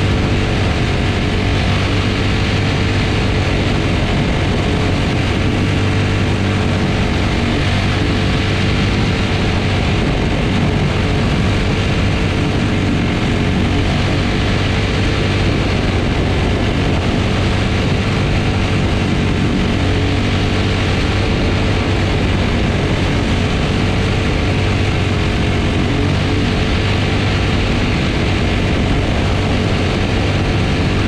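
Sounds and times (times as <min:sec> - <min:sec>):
race car engine droning: 0:00.0 - 0:31.0.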